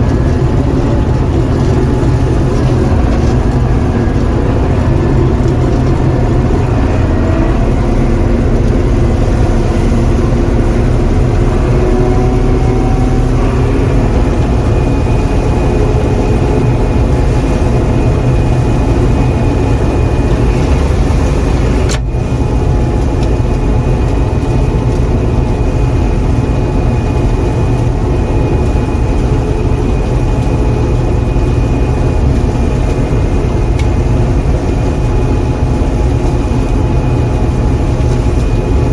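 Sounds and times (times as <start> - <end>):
combine harvester engine drone: 0.0 - 38.9
steady high whine: 0.0 - 38.9.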